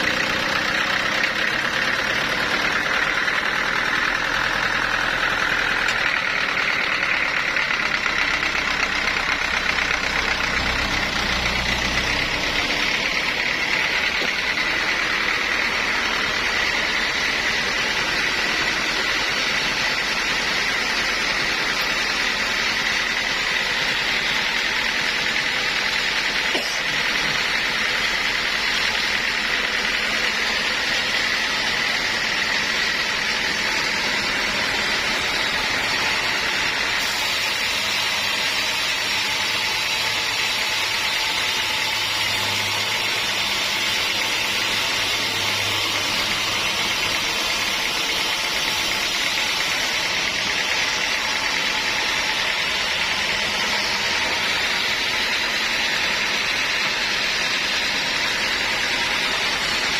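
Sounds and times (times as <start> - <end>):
sawmill machinery hiss and whine: 0.0 - 59.9.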